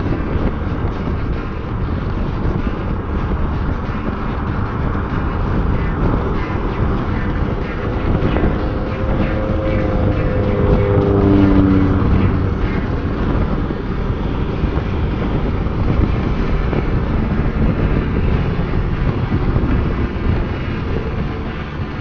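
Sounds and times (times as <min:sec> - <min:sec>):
motorcycle engine: 0:00.0 - 0:22.0
wind and road rush: 0:00.0 - 0:22.0.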